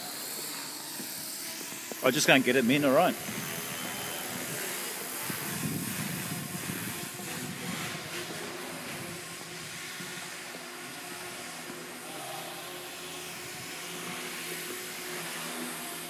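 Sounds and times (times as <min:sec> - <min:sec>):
model helicopter motor whine: 0:00.0 - 0:16.0.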